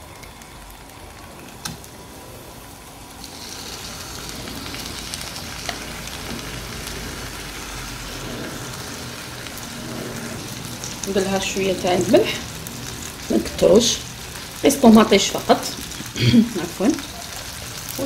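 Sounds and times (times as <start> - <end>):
tomato slices sizzling in a pan: 0.0 - 18.0.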